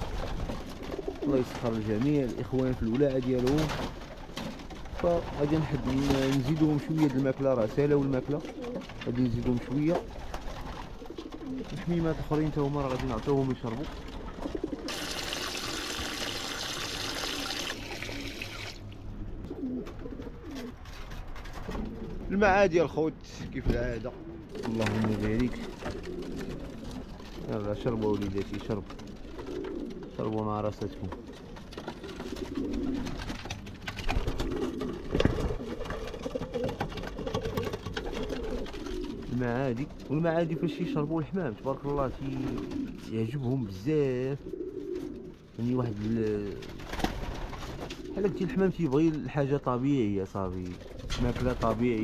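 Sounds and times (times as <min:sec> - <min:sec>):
pigeons cooing: 0:00.0 - 0:22.7, 0:23.8 - 0:49.8, 0:50.4 - 0:52.0.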